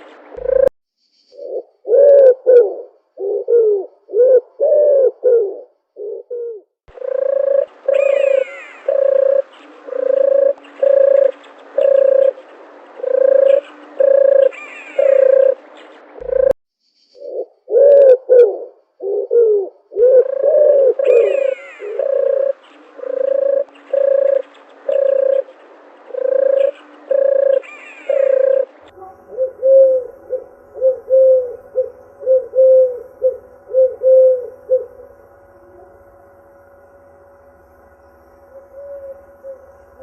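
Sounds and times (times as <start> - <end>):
dove cooing: 0.0 - 0.7, 1.4 - 16.6, 17.2 - 36.0, 38.5 - 40.0.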